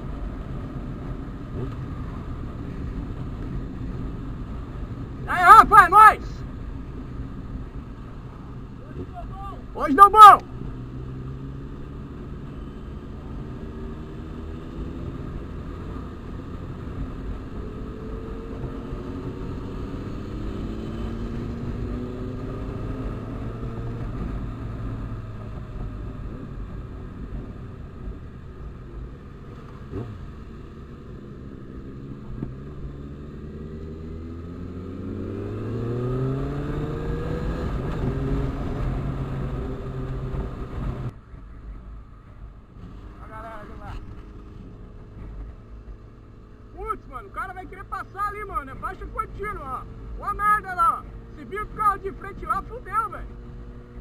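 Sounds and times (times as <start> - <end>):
motorcycle engine accelerating: 6.6 - 54.0.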